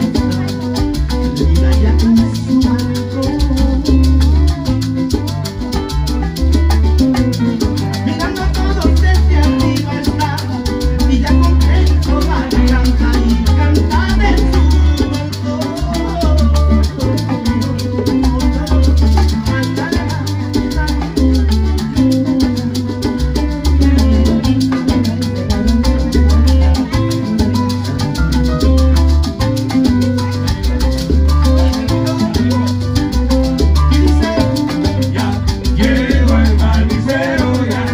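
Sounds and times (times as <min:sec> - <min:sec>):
live salsa band playing: 0:00.0 - 0:37.9
pulsing bass line: 0:00.0 - 0:37.9.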